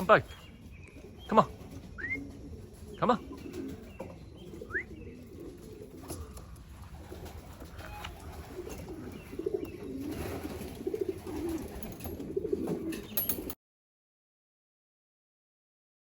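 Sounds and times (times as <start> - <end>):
pigeons cooing: 0.0 - 13.6.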